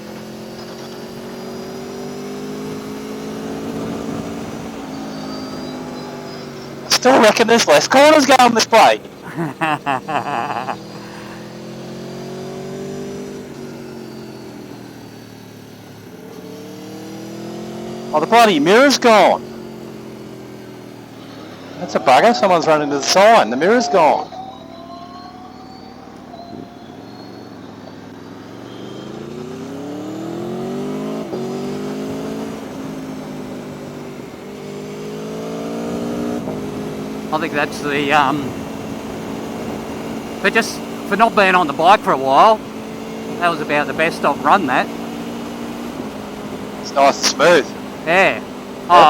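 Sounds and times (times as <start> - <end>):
motorcycle engine under throttle: 0.0 - 23.3, 26.4 - 49.0.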